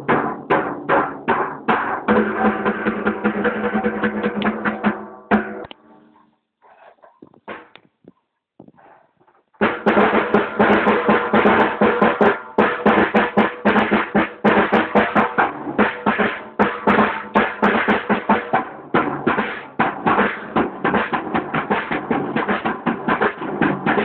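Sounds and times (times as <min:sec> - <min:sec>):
drum kit played loud and fast: 0:00.0 - 0:05.7, 0:09.6 - 0:24.0.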